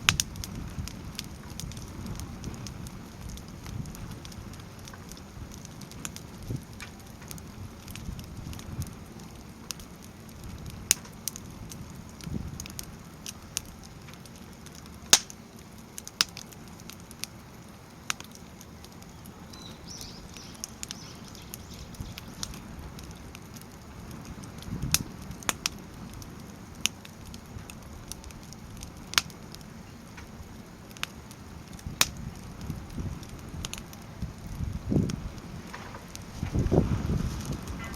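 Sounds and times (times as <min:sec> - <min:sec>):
firewood crackling with sharp pops: 0:00.0 - 0:37.9.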